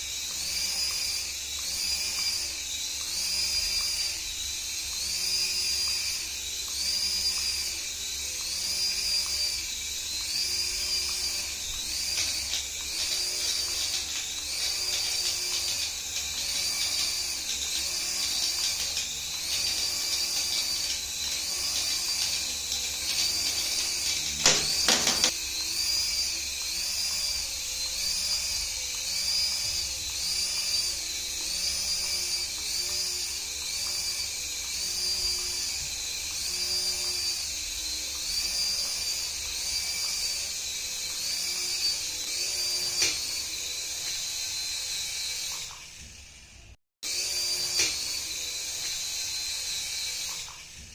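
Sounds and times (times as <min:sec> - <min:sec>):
toy electric motor whining: 0:00.0 - 0:50.9.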